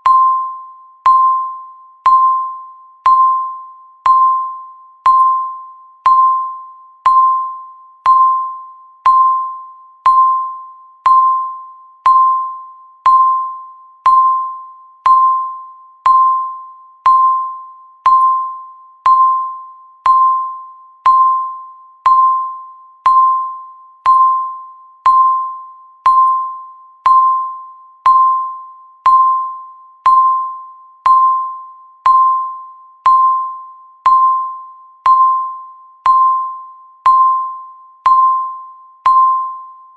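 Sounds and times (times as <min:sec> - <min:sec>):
bell-like ding: 0:00.0 - 0:39.9.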